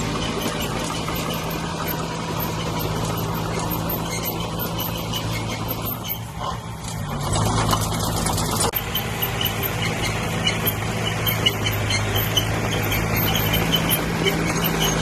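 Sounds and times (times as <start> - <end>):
faint high squeaks: 0.0 - 7.2, 8.7 - 15.0
heavy machinery diesel engine running: 0.0 - 15.0.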